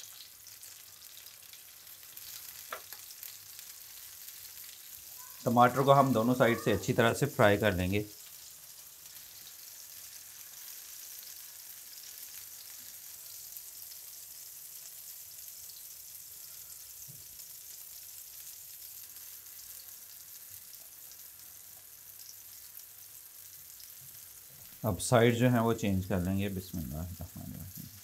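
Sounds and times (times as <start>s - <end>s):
tomato slices sizzling in oil: 0.0s - 28.0s.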